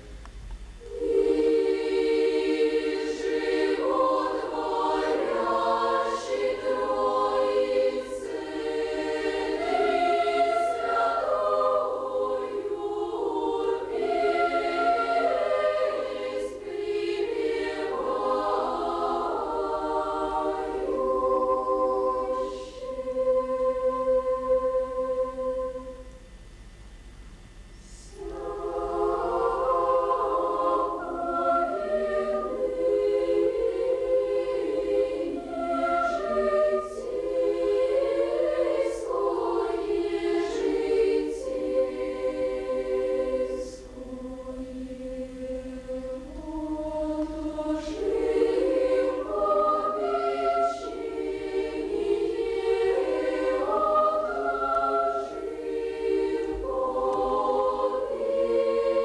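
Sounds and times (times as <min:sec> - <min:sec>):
children's choir singing: 0:00.8 - 0:26.2, 0:27.9 - 0:59.0.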